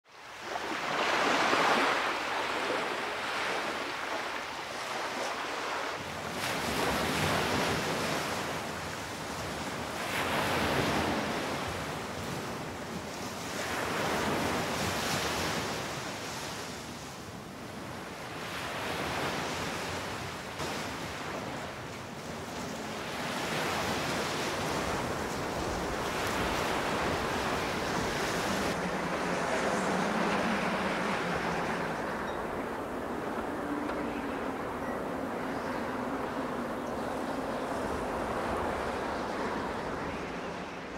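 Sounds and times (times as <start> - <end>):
wind: 0.0 - 40.9
ocean surf breaking on beach: 0.1 - 40.9.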